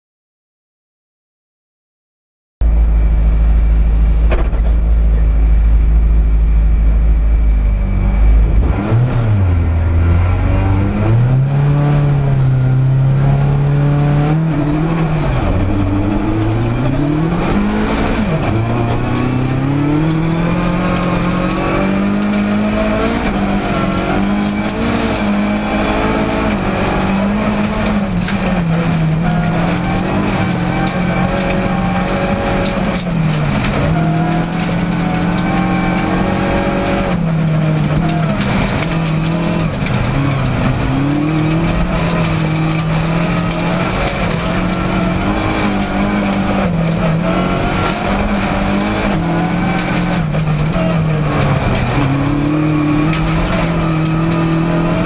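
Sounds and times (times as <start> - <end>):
gravel crackling under car: 2.6 - 55.0
rally car engine revving: 2.6 - 55.0.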